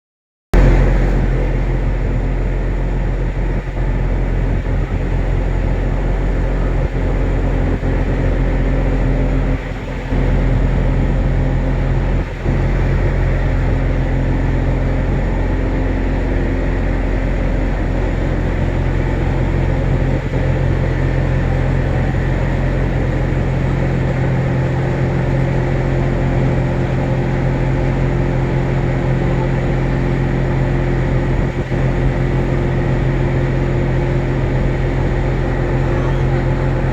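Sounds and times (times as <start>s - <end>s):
boat engine running: 0.6s - 36.9s.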